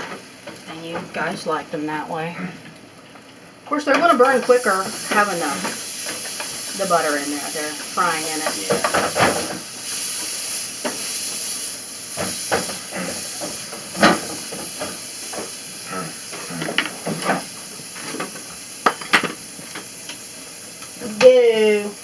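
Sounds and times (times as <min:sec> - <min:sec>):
butter sizzling in a frying pan: 0:00.0 - 0:22.0.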